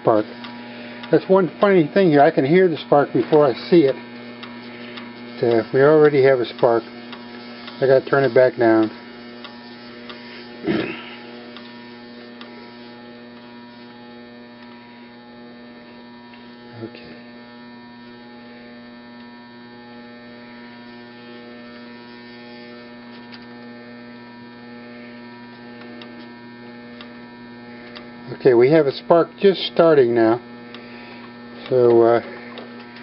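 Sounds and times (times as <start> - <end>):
motor electrical hum: 0.0 - 33.0.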